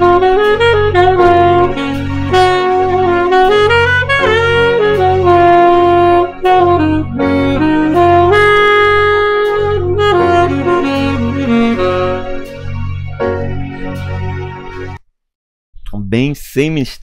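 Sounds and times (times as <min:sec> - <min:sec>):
saxophone melody: 0:00.0 - 0:15.0
sustained chord backing: 0:00.0 - 0:15.0.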